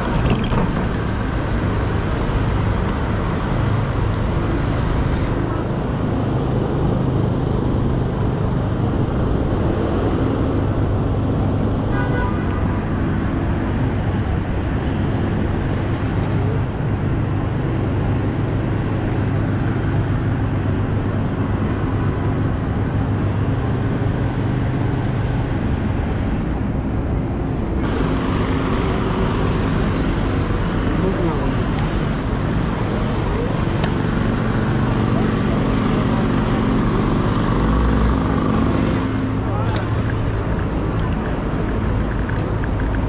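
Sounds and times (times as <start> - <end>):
city traffic rumble: 0.0 - 43.0.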